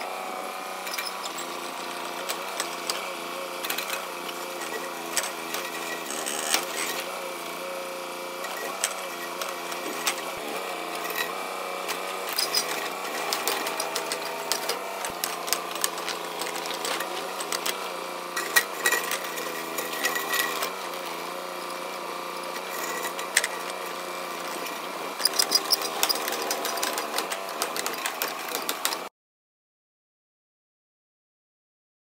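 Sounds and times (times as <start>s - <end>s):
excavator engine running: 0.0s - 29.1s.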